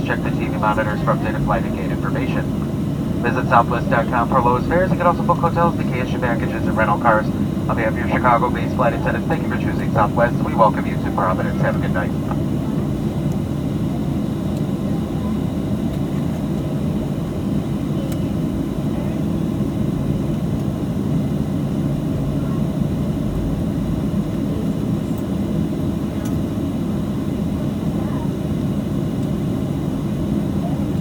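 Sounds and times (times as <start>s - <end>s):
jet engines idling in cabin: 0.0s - 31.0s.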